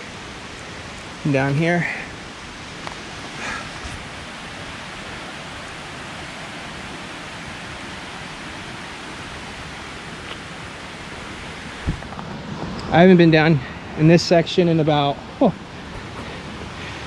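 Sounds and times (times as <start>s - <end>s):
stream flowing over rocks: 0.0s - 17.0s.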